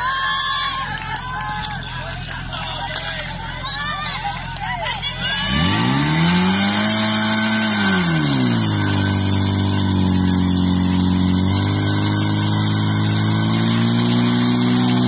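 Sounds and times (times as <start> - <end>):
petrol engine running at high revs: 0.0 - 15.0.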